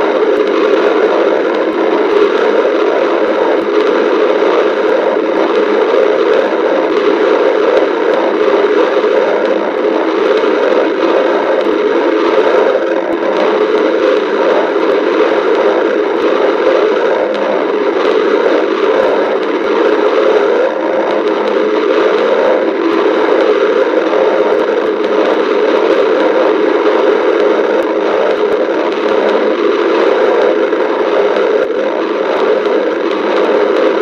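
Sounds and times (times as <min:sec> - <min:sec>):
stomach growling: 0:00.0 - 0:34.0.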